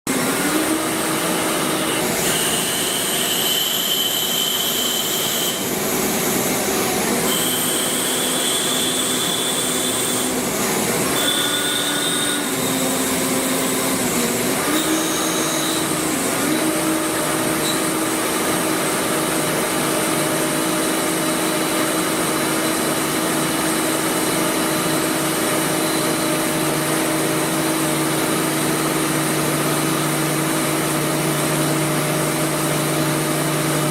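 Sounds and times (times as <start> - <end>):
lathe machining whine: 0.1 - 33.9.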